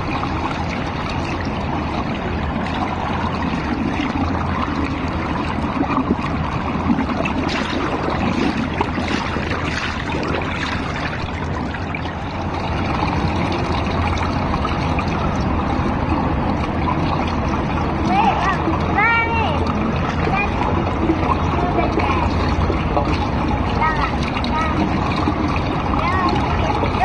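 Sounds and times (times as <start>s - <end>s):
water sloshing and lapping: 0.0s - 27.0s.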